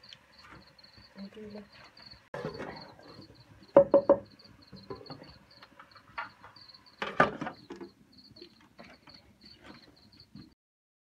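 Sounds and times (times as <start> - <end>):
crickets chirping: 0.0 - 10.6.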